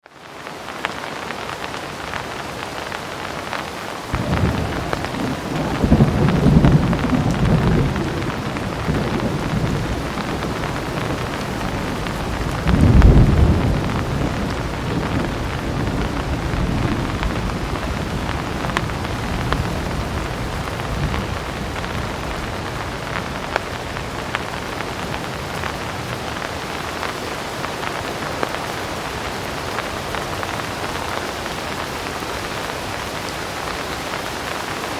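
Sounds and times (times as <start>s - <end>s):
heavy rain falling: 0.0s - 34.9s
thunder rumbling: 4.0s - 34.9s.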